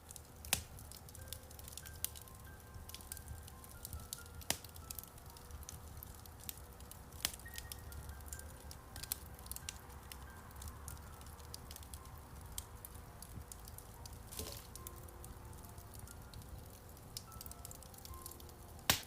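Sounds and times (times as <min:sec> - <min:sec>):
soft slow piano notes: 0:00.0 - 0:19.0
wood fire crackling: 0:00.0 - 0:19.0.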